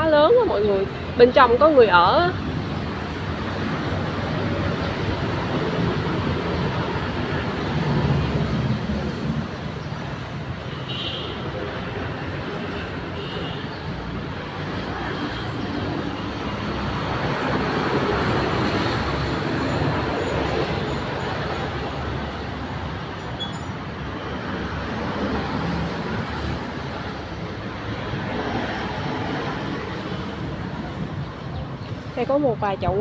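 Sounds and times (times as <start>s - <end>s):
highway traffic noise: 0.0s - 33.0s.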